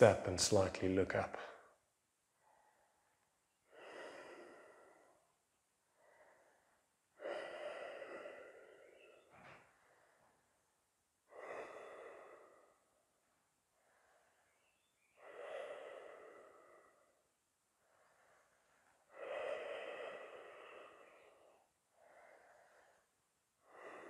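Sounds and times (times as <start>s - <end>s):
person breathing slowly: 1.6s - 24.0s.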